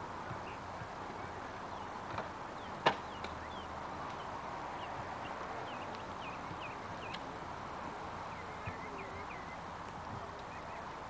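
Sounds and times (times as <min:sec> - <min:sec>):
outdoor background hiss: 0:00.0 - 0:11.0
small birds chirping: 0:00.2 - 0:11.0.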